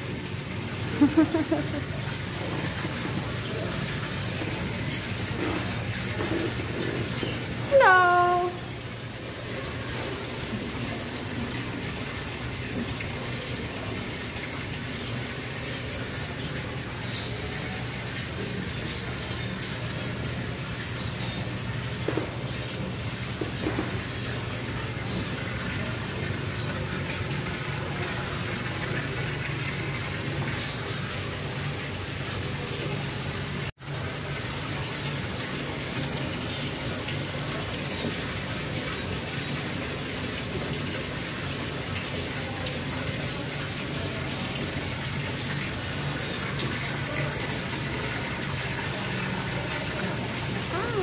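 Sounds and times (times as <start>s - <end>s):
fountain water splashing: 0.0s - 51.0s.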